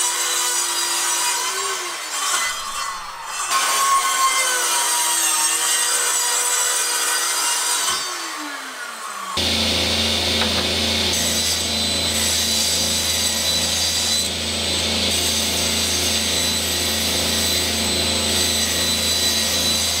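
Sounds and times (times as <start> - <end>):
table saw cutting wood: 0.0 - 20.0.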